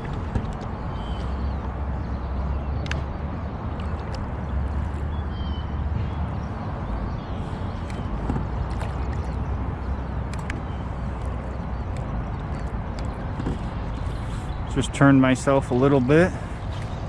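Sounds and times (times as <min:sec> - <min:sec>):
small clicks and knocks on boat: 0:00.0 - 0:05.2, 0:05.9 - 0:15.8, 0:16.6 - 0:17.0.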